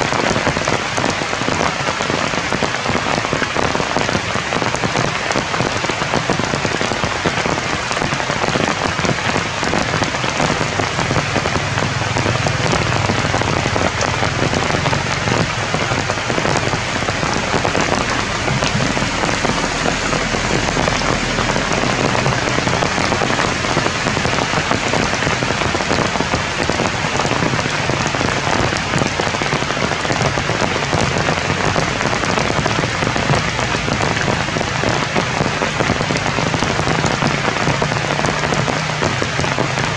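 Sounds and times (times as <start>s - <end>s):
rain falling on leaves: 0.0s - 39.9s
single raindrops: 0.3s - 39.9s.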